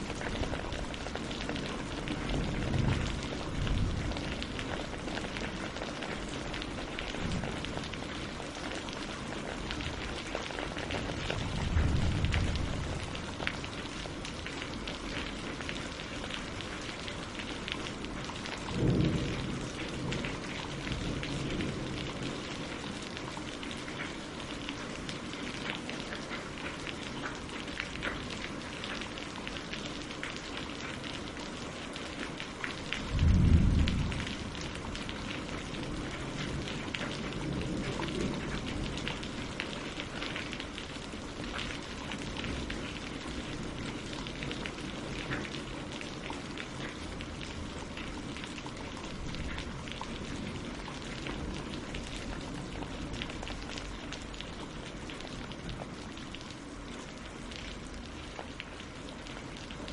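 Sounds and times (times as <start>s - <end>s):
rain on water and leaves: 0.0s - 59.9s.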